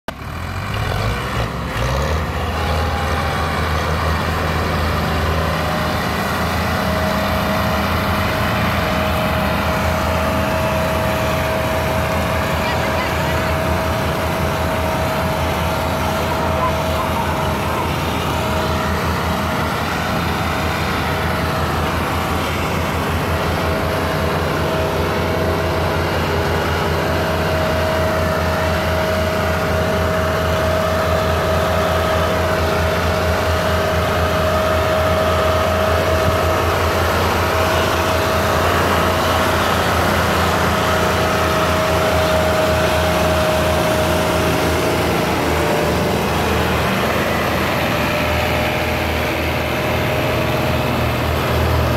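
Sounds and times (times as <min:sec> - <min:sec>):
tractor diesel engine: 0:00.0 - 0:51.9.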